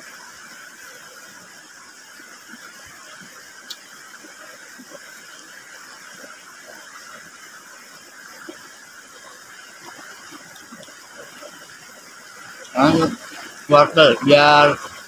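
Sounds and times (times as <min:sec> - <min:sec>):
river flowing over rocks: 0:00.0 - 0:15.0.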